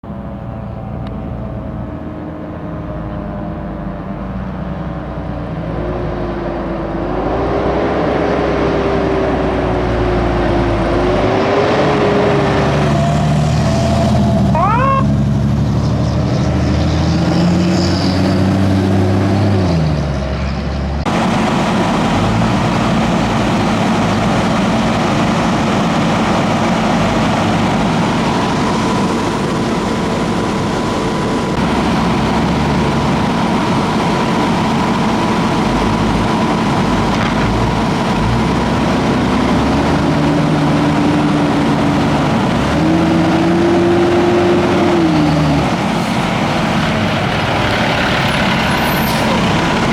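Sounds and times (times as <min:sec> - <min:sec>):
fire engine diesel engine running: 0:00.0 - 0:49.9
road noise: 0:00.0 - 0:49.9.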